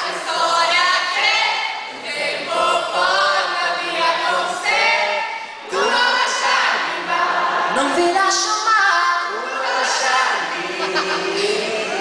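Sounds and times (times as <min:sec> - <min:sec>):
voices singing a cappella: 0:00.0 - 0:12.0.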